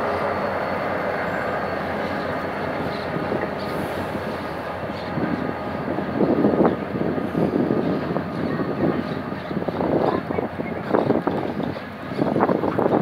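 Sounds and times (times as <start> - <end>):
diesel locomotive engine: 0.0 - 13.0
train wheels rumbling on rail: 0.0 - 13.0
wheels clattering over rail joints: 1.2 - 13.0.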